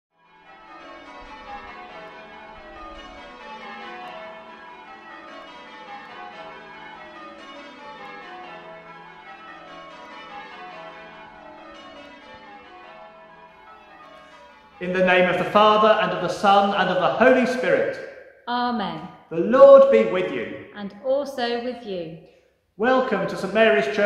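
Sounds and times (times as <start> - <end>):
church bells ringing changes: 0.2 - 22.1, 22.8 - 24.0.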